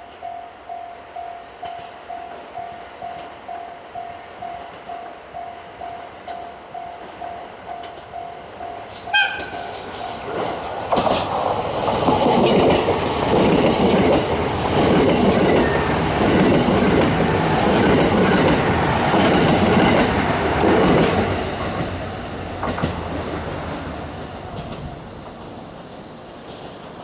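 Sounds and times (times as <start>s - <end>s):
diesel train passing: 0.2s - 27.0s.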